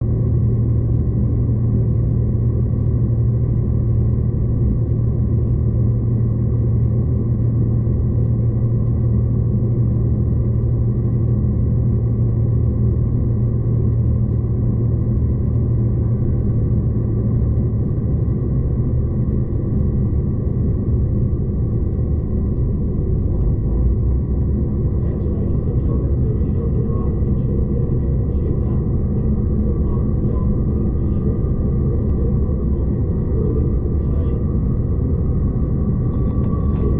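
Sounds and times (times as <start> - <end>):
train engine hum: 3.6 - 36.9.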